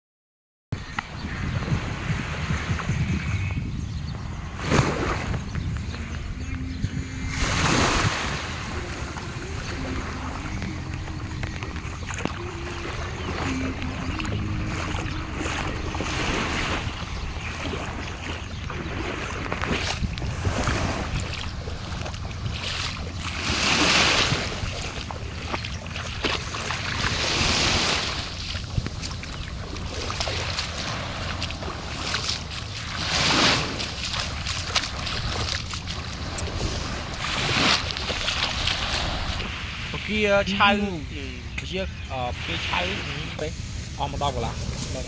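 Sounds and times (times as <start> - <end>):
small waves lapping on sand: 4.2 - 45.0.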